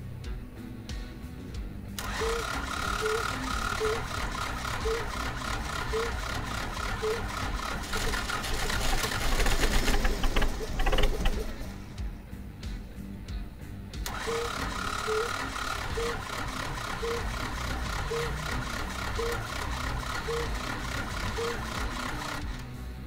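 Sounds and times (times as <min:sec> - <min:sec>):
diesel engine cranking: 0:02.0 - 0:12.1, 0:14.0 - 0:23.0.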